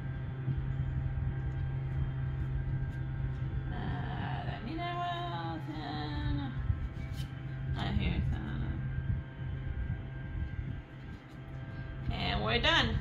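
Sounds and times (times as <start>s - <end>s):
steady low drone: 0.0s - 13.0s.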